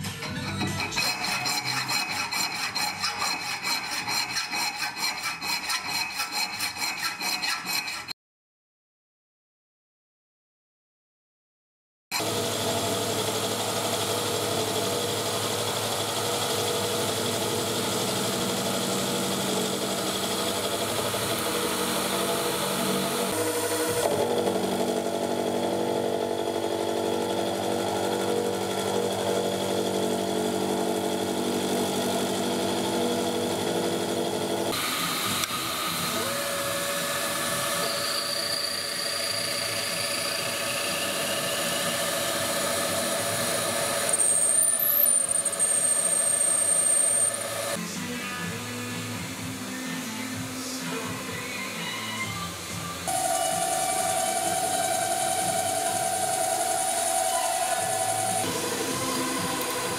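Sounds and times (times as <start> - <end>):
milling machine spindle whining: 0.2 - 7.8, 12.2 - 47.8, 50.9 - 59.9
machine drilling a hole: 0.3 - 8.1, 12.1 - 47.8, 53.0 - 59.9.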